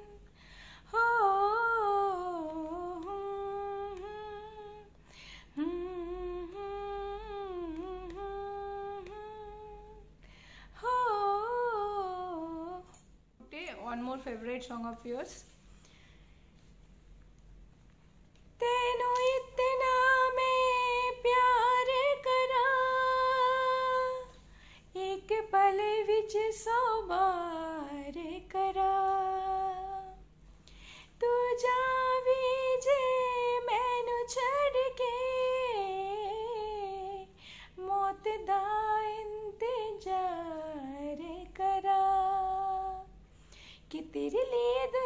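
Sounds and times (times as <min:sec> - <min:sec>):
woman singing unaccompanied: 0:00.0 - 0:00.3, 0:00.9 - 0:10.1, 0:10.8 - 0:13.0, 0:18.6 - 0:30.2, 0:31.2 - 0:43.2, 0:43.9 - 0:45.0.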